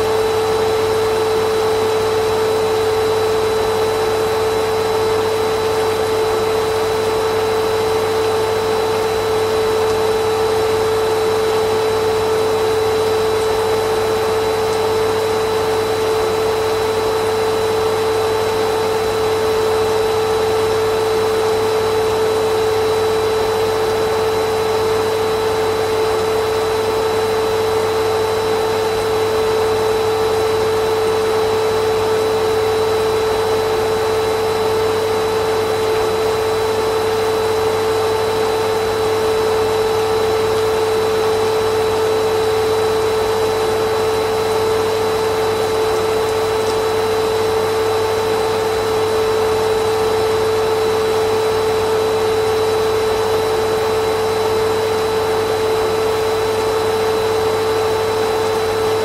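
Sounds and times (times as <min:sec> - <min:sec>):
vacuum cleaner motor running: 0:00.0 - 0:59.0.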